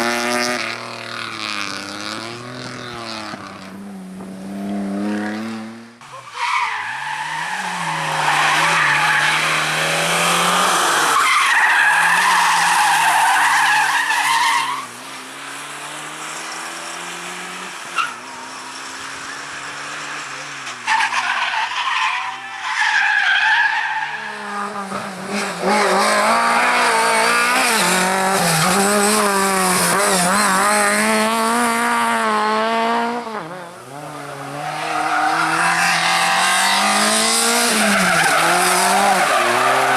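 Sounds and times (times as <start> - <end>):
race car engine revving: 0.0 - 6.0, 6.9 - 20.8, 24.0 - 39.9.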